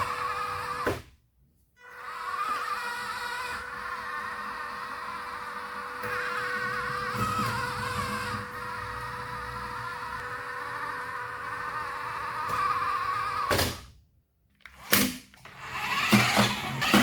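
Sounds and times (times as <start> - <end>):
toy car electric motor whining: 0.0 - 0.9, 1.8 - 13.5, 14.7 - 17.0.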